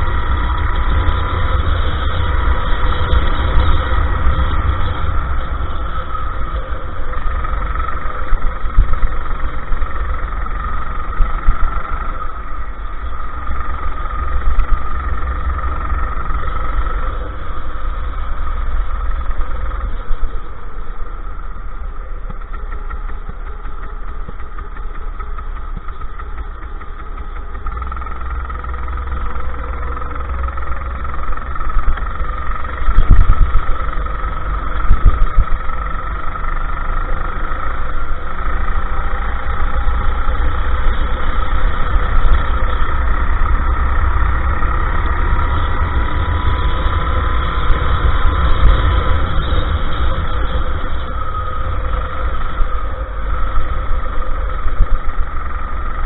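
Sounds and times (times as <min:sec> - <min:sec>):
go-kart engine racing: 0:00.0 - 0:56.0
wind rumble on microphone: 0:00.0 - 0:56.0.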